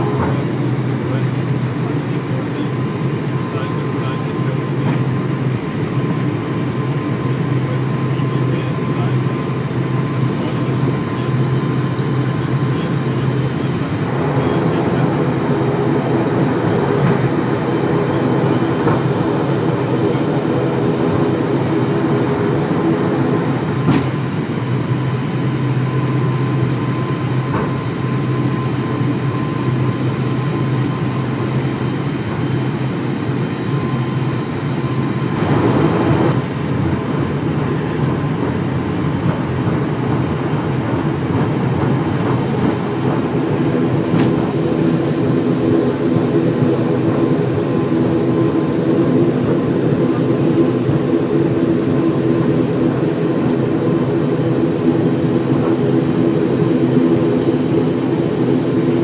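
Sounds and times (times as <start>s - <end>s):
turboprop engine drone: 0.0s - 59.0s.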